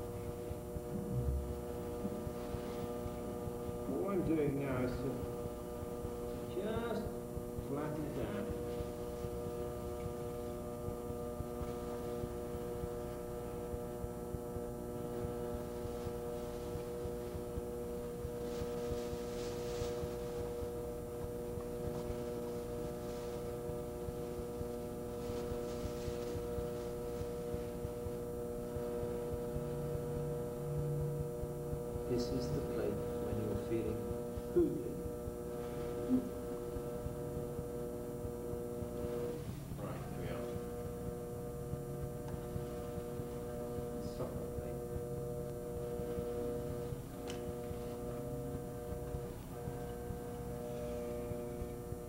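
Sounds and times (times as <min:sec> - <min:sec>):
steady electrical hum: 0:00.0 - 0:52.0.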